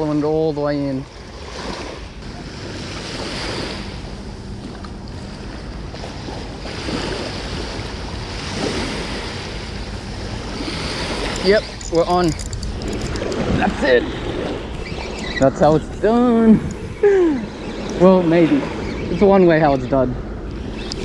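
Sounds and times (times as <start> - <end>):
small waves washing on sand: 0.0 - 19.2
wind buffeting the microphone: 1.1 - 21.0.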